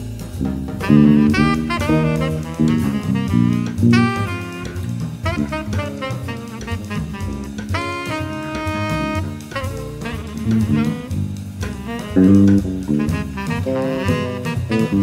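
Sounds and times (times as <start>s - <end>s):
electric bass fingerstyle: 0.0s - 15.0s
jazz drum kit: 0.0s - 15.0s
lead instrument melody: 0.7s - 15.0s.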